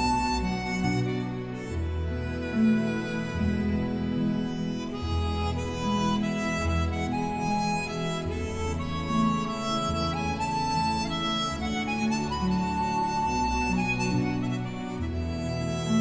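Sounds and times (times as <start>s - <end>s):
instrumental melody with bass line: 0.0s - 16.0s.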